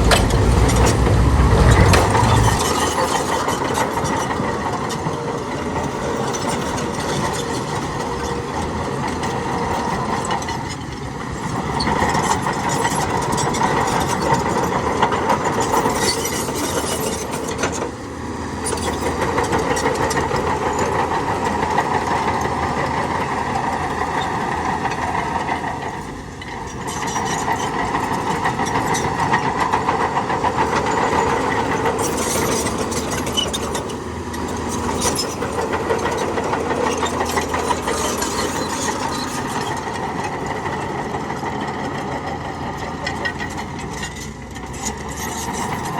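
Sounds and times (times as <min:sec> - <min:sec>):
diesel machinery engine clattering: 0:00.0 - 0:45.9.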